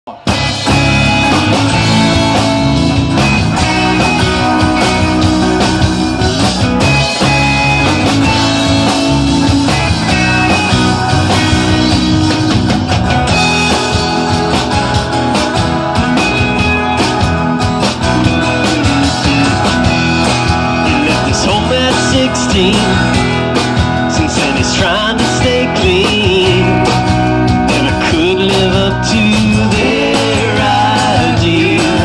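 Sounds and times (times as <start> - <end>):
acoustic guitar: 0.1 - 32.0
bass guitar: 0.1 - 32.0
drum kit: 0.1 - 32.0
electric guitar: 0.1 - 32.0.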